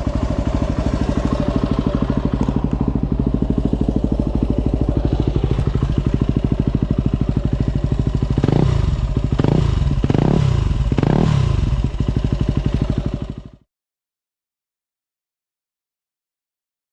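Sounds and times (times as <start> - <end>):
motorcycle engine idling and revving: 0.0 - 13.7.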